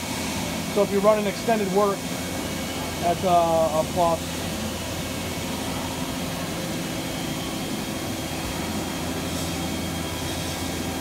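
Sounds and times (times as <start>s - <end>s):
machine mechanical hum: 0.0s - 11.0s
steady machine tones: 0.0s - 11.0s.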